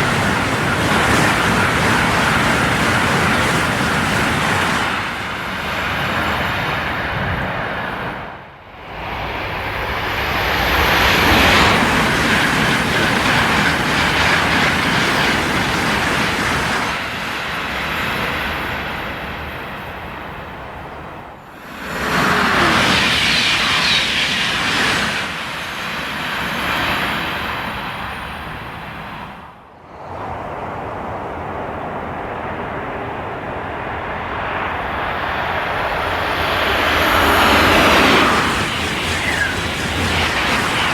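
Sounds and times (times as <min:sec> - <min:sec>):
high-speed trains passing: 0:00.0 - 0:40.9.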